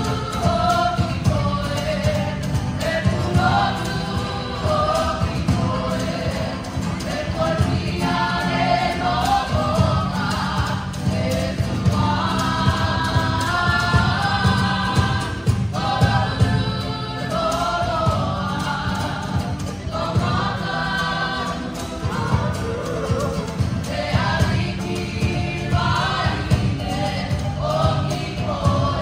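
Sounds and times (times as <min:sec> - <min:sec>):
fast steady drumming: 0:00.0 - 0:29.0
group of voices singing: 0:00.0 - 0:29.0.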